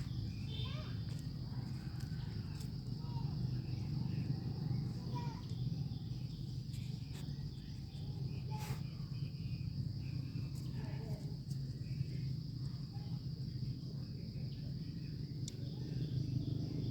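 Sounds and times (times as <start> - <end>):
high insect drone: 0.0 - 16.9.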